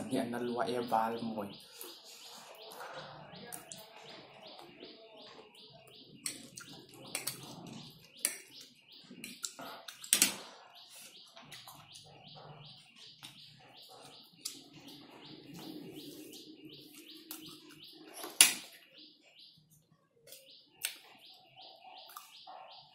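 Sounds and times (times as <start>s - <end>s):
small bird chirping: 0.0s - 22.9s.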